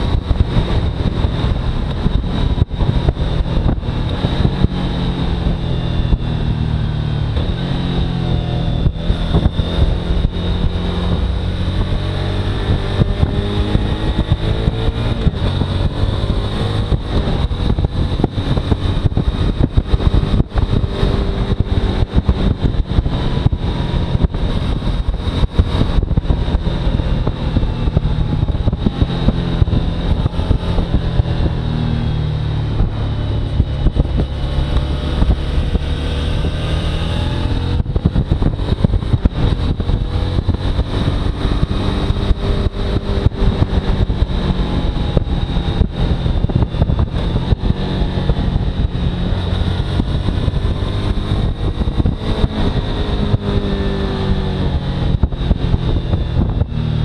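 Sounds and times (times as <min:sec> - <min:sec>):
motorcycle engine running: 0:00.0 - 0:57.0
wind rushing: 0:00.0 - 0:57.0.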